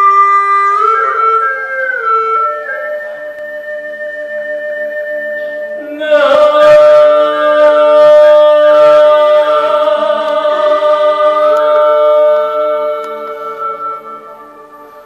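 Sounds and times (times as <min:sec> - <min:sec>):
person singing wavering line: 0:00.0 - 0:15.0.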